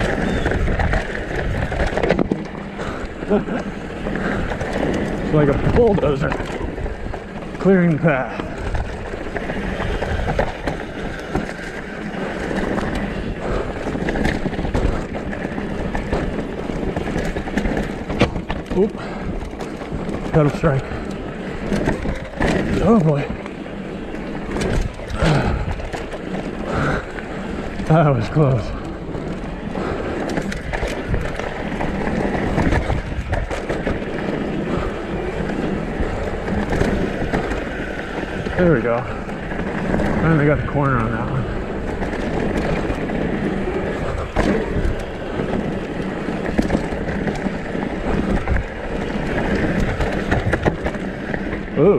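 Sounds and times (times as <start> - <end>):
bike rattling over rocks: 0.0 - 51.9
bike tyre noise: 0.0 - 51.9
wind rumbling on microphone: 0.0 - 51.9.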